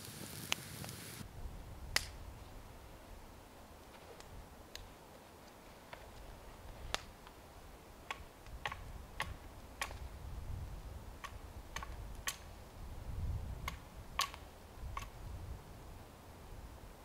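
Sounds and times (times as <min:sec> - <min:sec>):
wood fire crackling: 0:00.0 - 0:15.1.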